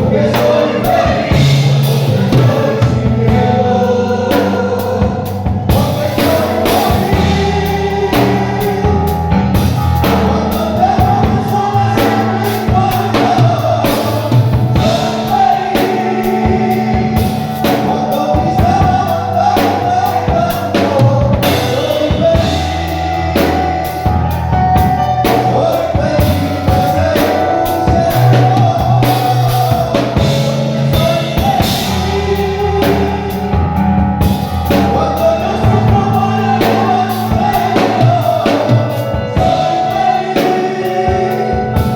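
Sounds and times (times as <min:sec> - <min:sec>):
band with bass and drums: 0:00.0 - 0:41.9
voices singing: 0:00.0 - 0:41.9.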